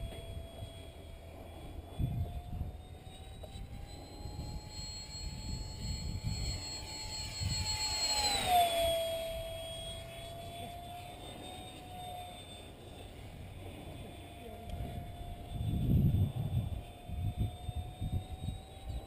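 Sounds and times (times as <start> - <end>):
model plane fan whine passing: 0.0 - 19.0.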